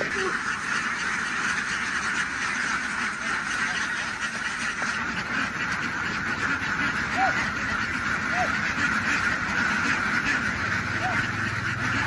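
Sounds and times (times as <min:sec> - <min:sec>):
flock of ducks quacking: 0:00.0 - 0:12.0.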